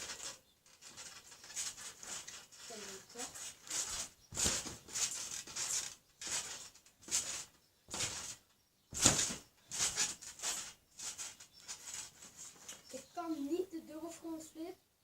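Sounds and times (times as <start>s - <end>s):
heavy landing on trampoline: 0.0s - 12.4s
bouncing on a trampoline: 0.0s - 12.9s.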